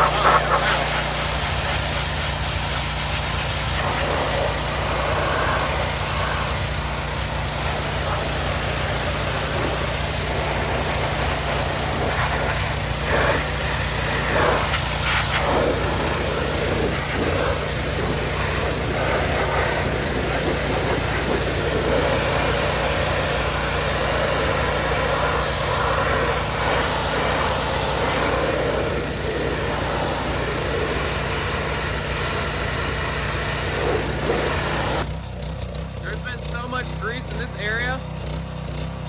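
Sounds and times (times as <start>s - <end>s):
high-pressure water spray hissing: 0.0s - 35.1s
pressure washer engine running: 0.0s - 39.0s.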